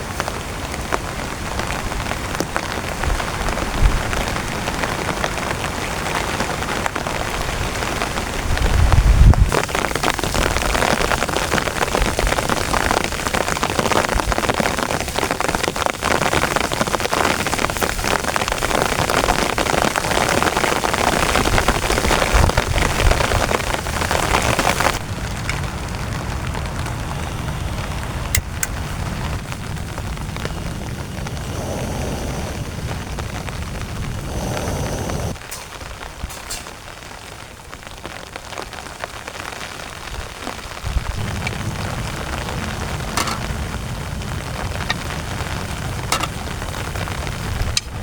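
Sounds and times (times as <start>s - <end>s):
heavy rain pounding on a tent: 0.0s - 48.0s.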